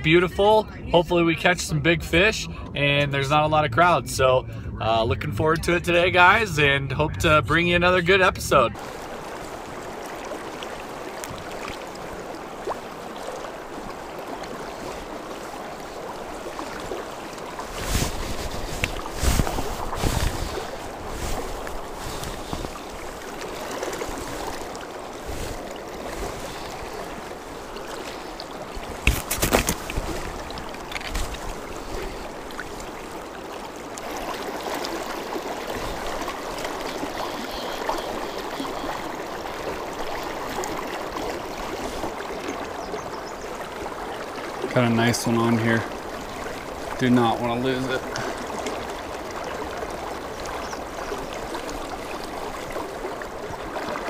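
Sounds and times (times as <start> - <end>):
river water rushing and splashing: 0.0 - 54.0.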